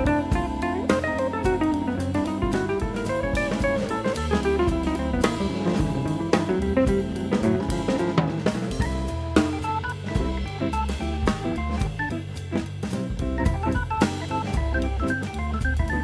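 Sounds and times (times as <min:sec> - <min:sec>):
instrumental music with drum kit: 0:00.0 - 0:16.0.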